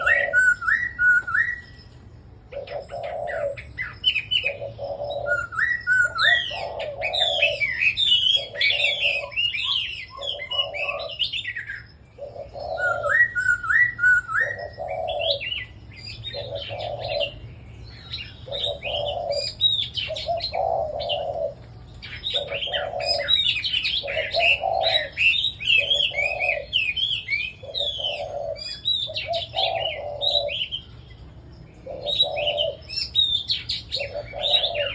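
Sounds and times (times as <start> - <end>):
birds singing and chirping: 0.0 - 34.9.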